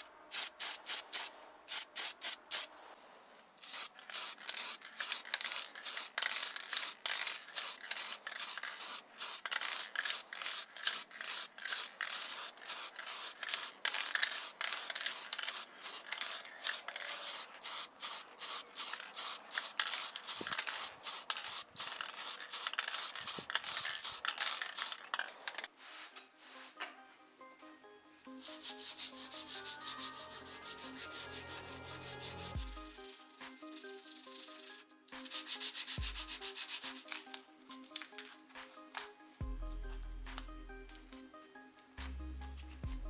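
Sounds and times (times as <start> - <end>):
hand rubbing and scraping: 0.0 - 27.3, 28.3 - 43.0.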